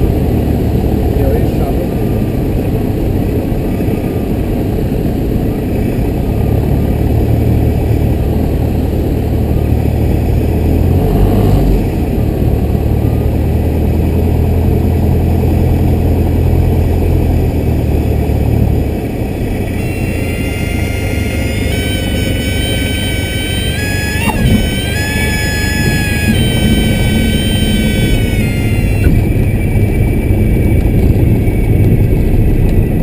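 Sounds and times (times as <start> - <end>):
aircraft engine and propeller droning: 0.0 - 33.0.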